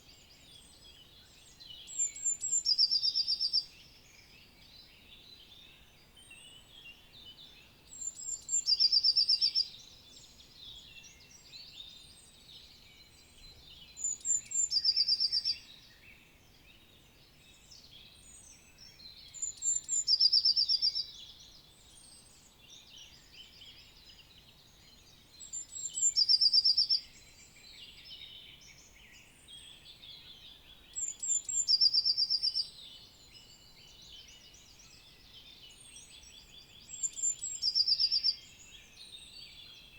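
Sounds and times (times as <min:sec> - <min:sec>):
bird song with fast trill: 0:00.0 - 0:39.9.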